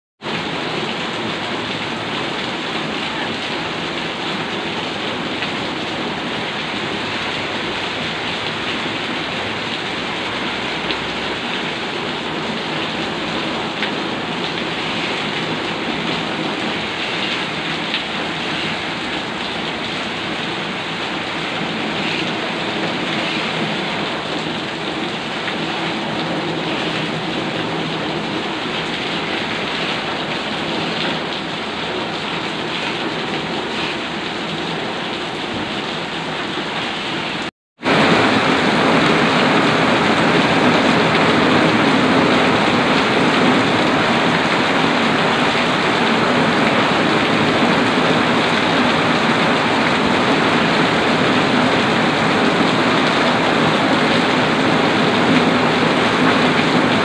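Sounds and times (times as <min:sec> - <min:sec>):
heavy rain on hard surfaces: 0:00.2 - 0:57.0.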